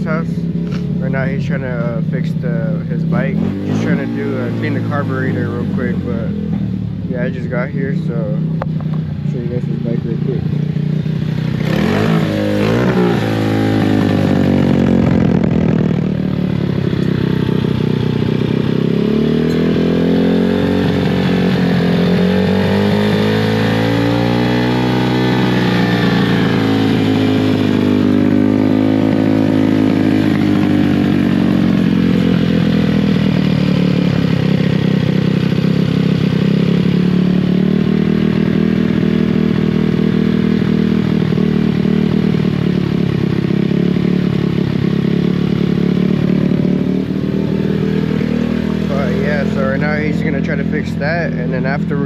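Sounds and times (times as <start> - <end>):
dirt bike engine running: 0.0 - 52.0.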